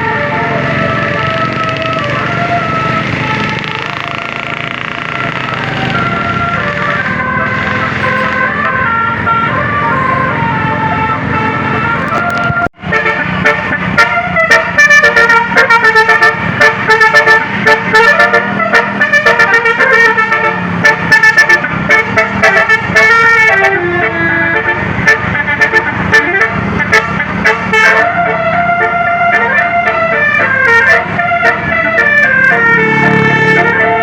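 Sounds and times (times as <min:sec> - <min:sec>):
bus air horns playing melody: 0:00.0 - 0:34.0.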